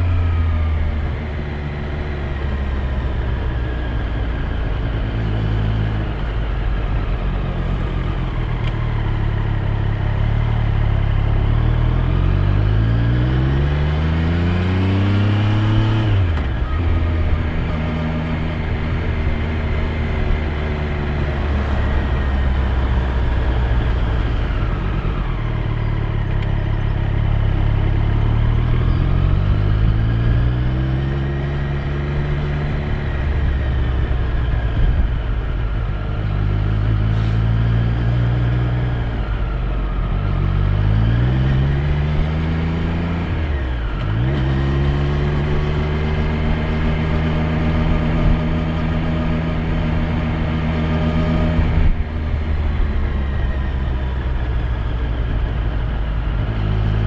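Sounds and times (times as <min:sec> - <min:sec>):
motorcycle engine revving: 0:07.3 - 0:57.0.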